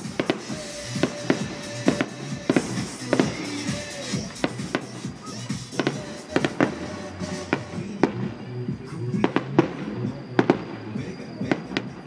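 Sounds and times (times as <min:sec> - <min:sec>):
fireworks bangs: 0:00.0 - 0:12.0
music playing: 0:00.0 - 0:12.0.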